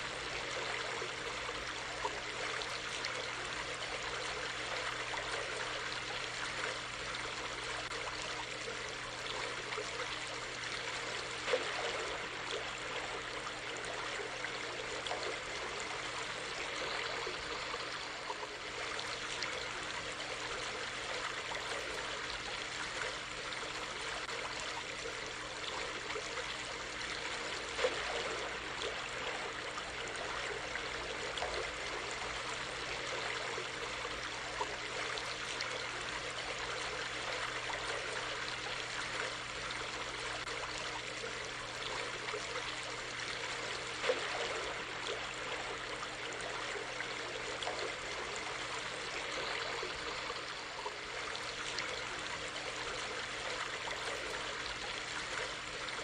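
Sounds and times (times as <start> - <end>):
stream flowing: 0.0 - 56.0
water splashes: 0.0 - 56.0.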